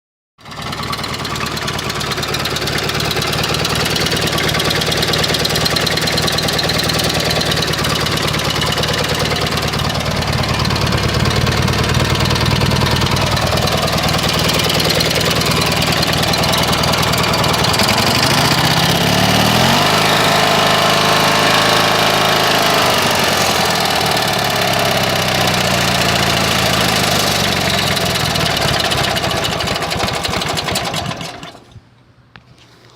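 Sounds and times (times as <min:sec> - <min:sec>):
lawn tractor engine running: 0:00.4 - 0:31.9.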